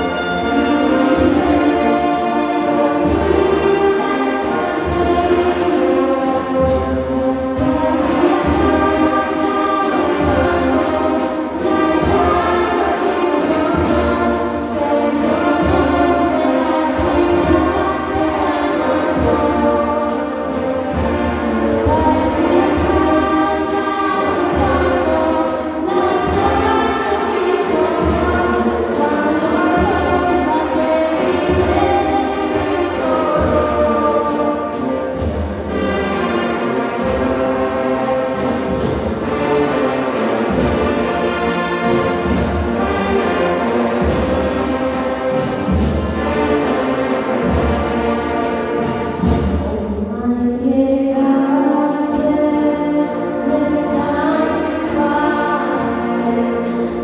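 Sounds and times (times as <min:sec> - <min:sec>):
brass band playing chords: 0:00.0 - 0:57.0.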